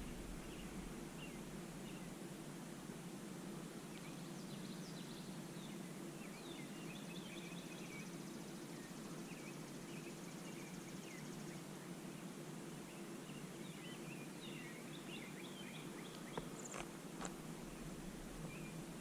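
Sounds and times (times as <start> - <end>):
small birds chirping: 0.0 - 2.2, 3.8 - 19.0
steady low hum: 0.0 - 19.0.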